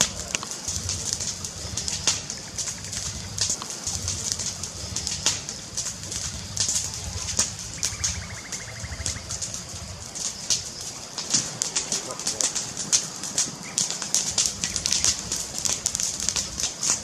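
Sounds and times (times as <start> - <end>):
fire crackling and popping: 0.0 - 17.0
rapid ticking trill: 0.0 - 17.0.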